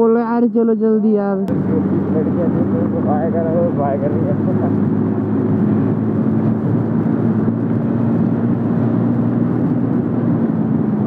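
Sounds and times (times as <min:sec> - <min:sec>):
road noise: 0:00.0 - 0:11.0
rushing wind: 0:01.1 - 0:11.0
scooter engine running: 0:01.5 - 0:11.0.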